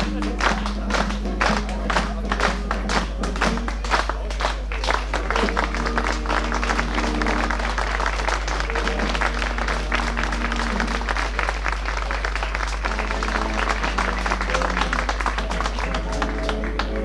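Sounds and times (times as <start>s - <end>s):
dance music: 0.0s - 3.8s, 5.2s - 11.4s, 12.7s - 17.0s
people clapping: 0.0s - 17.0s.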